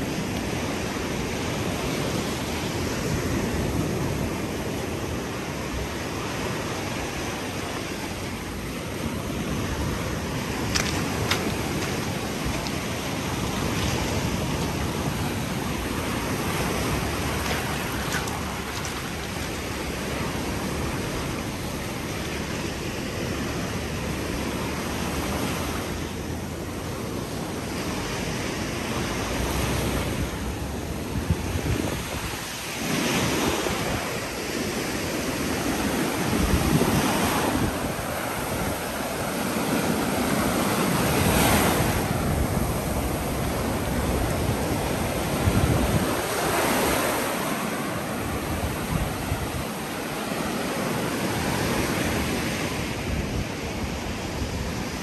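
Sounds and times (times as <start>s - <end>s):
sea waves breaking on beach: 0.0s - 55.0s
wind rumbling on microphone: 0.0s - 55.0s.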